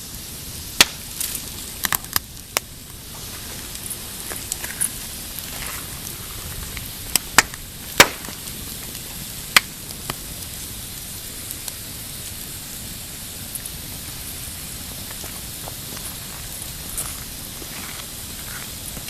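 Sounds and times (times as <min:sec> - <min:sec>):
campfire crackling: 0:00.0 - 0:19.0
fire popping: 0:00.0 - 0:19.0
steady hiss: 0:00.0 - 0:19.0.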